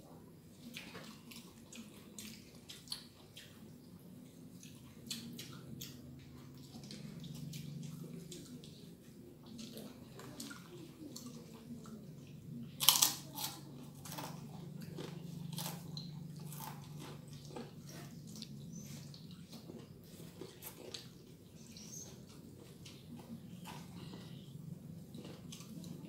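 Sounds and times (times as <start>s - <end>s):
low steady hum: 0.0s - 26.0s
crunchy food chewing: 0.5s - 26.0s.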